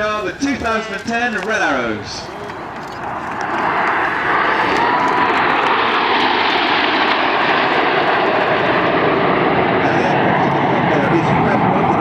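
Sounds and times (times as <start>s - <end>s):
jets flying over: 0.0s - 12.0s.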